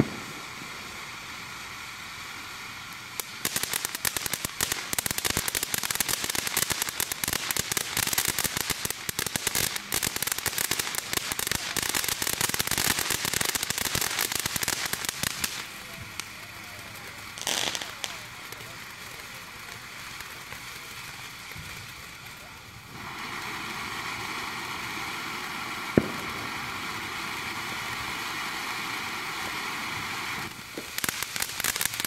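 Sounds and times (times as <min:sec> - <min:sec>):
firework fountain hissing and crackling: 0:00.0 - 0:32.0.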